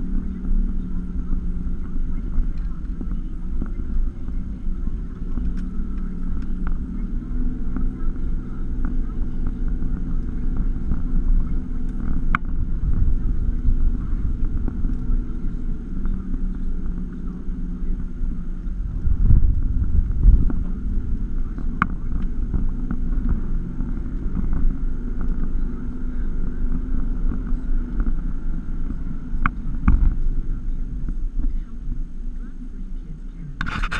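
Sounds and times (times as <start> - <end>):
low thumps: 0.0 - 32.2
engine and drivetrain hum: 0.0 - 33.9.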